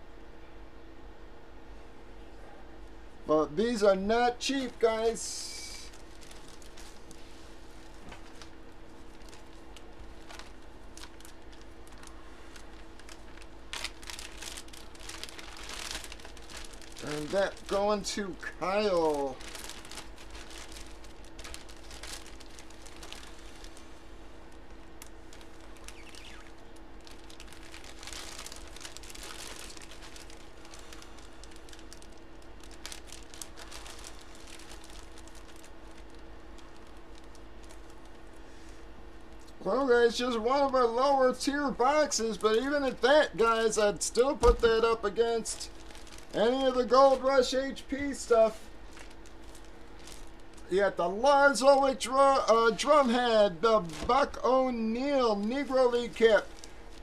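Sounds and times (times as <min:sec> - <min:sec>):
low electrical hum: 0:00.0 - 0:57.0
plastic bags rustling: 0:04.4 - 0:57.0.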